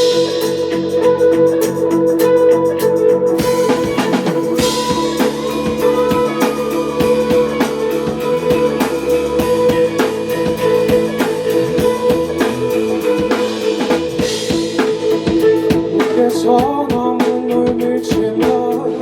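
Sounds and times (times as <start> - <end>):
drum kit beat: 0.0 - 19.0
electric guitar chords: 0.0 - 19.0.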